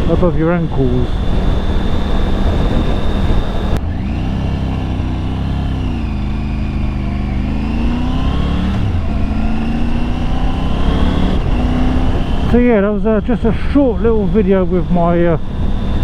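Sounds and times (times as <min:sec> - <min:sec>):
motorcycle engine accelerating: 0:00.0 - 0:16.0
wind noise: 0:00.0 - 0:16.0.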